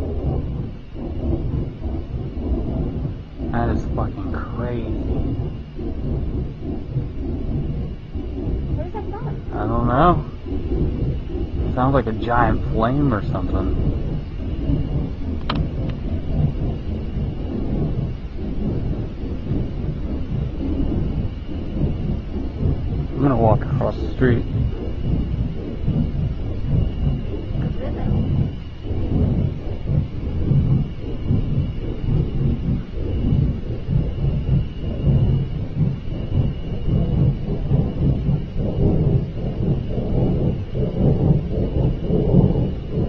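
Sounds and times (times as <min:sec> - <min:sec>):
low rumbling roar: 0:00.0 - 0:43.0.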